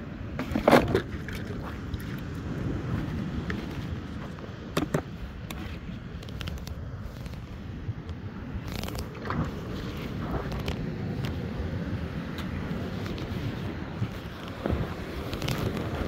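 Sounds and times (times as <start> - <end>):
wind rumble on microphone: 0.0 - 16.0
fishing gear handling noises: 0.4 - 7.6, 8.6 - 11.4, 12.4 - 16.0.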